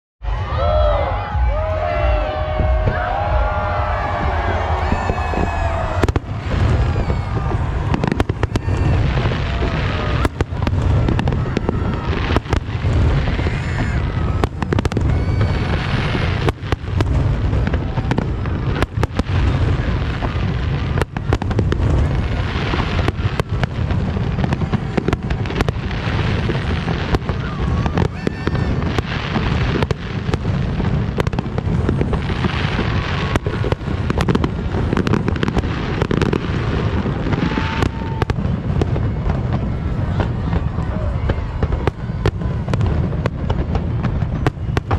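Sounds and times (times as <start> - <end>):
fireworks bangs and crackles: 0.2 - 44.9
people's voices: 0.3 - 44.9.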